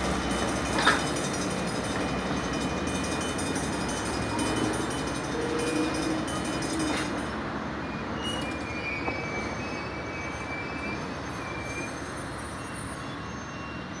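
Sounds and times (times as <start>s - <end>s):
high wheel squeals: 0.0s - 14.0s
train wheels rumbling on rails: 0.0s - 14.0s.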